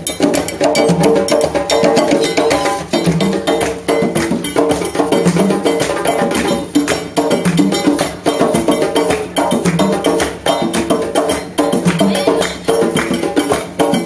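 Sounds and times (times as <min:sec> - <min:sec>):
djembe drum ensemble: 0:00.0 - 0:14.0
sharp bright drum part: 0:00.0 - 0:14.0.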